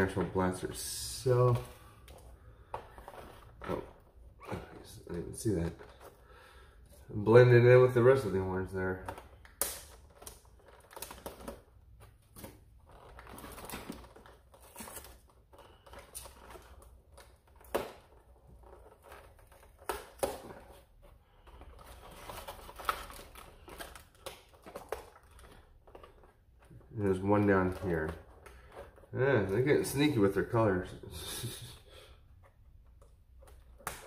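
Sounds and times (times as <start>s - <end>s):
cardboard and plastic rustling: 0.0s - 31.6s.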